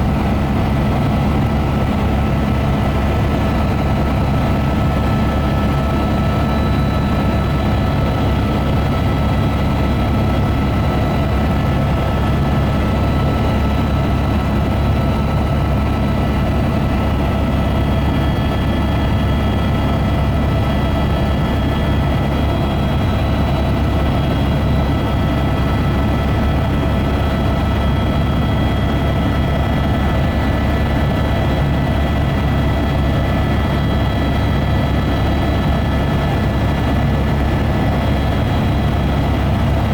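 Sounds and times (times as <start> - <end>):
helicopter drone: 0.0 - 39.9.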